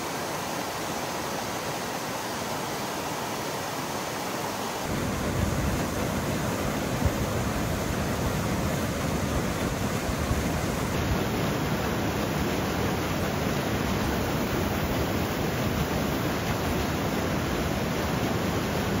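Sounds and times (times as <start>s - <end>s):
stream pouring over a weir: 0.0s - 19.0s.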